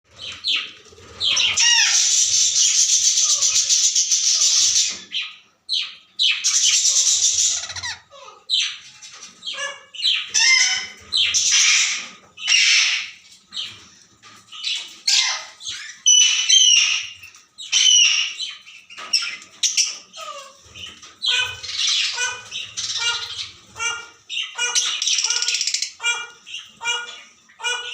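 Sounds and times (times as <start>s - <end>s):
parrots squawking and chattering: 0.1s - 27.9s.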